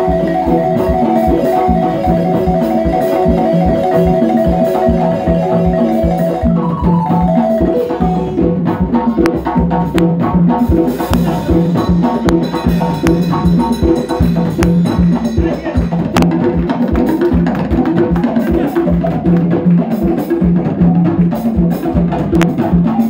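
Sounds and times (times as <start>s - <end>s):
balafon wooden notes: 0.0s - 23.0s
hand drums beat: 0.0s - 23.0s.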